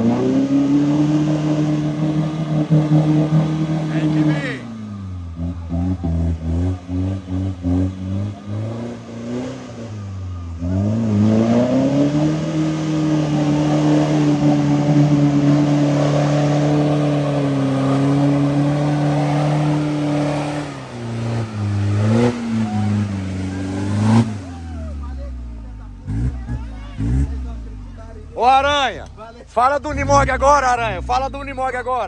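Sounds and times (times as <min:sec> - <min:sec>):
off-road engine revving: 0:00.0 - 0:32.0.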